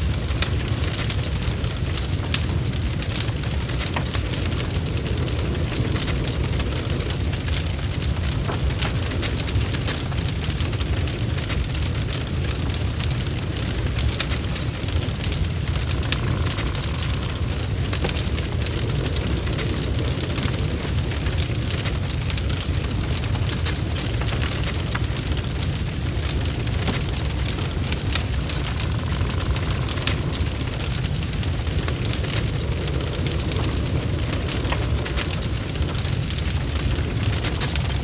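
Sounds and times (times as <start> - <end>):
steady low rumble: 0.0 - 38.0
wood fire crackling and popping: 0.0 - 38.0.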